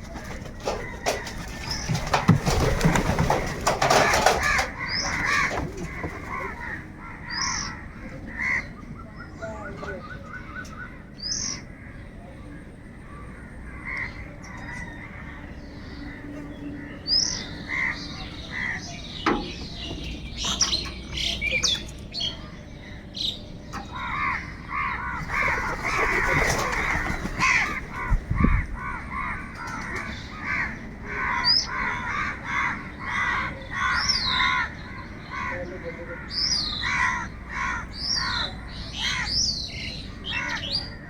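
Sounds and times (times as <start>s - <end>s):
small birds chirping: 0.0s - 41.0s
crows cawing: 0.1s - 9.0s, 9.8s - 41.0s.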